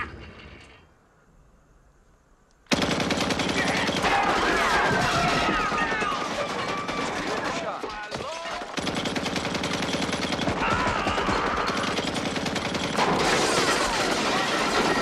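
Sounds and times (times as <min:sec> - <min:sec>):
machine gun automatic fire: 0:02.7 - 0:15.0.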